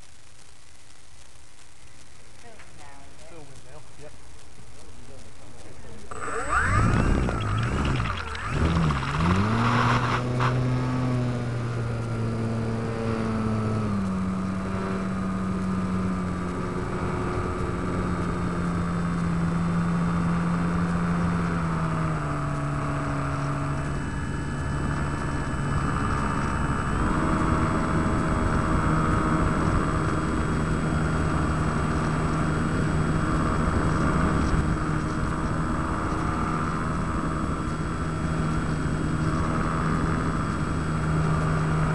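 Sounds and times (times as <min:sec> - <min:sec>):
model plane motor buzzing: 0:06.0 - 0:41.9.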